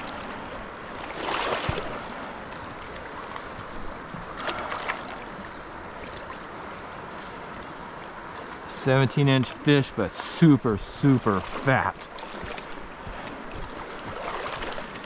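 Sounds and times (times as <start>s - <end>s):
river running over rocks: 0.0s - 15.0s
water splashing: 0.0s - 15.0s.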